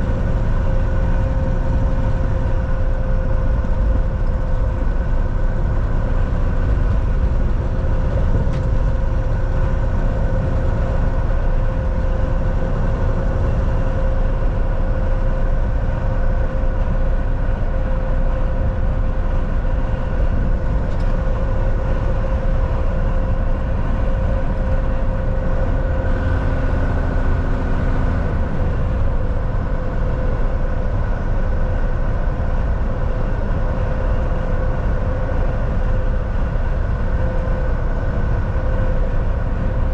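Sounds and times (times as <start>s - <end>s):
steady hum: 0.0s - 39.9s
truck engine and road rumble: 0.0s - 39.9s.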